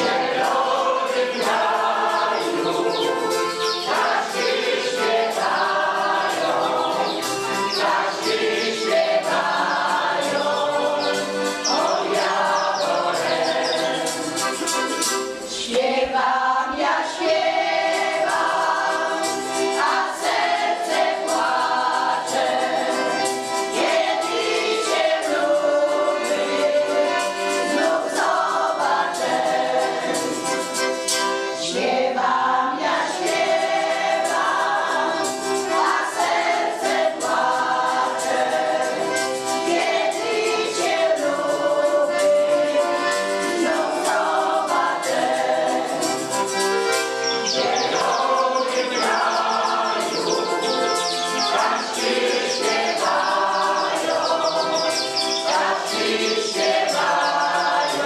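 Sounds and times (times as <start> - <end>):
accordion: 0.0 - 58.0
choir singing a folk song: 0.0 - 58.0.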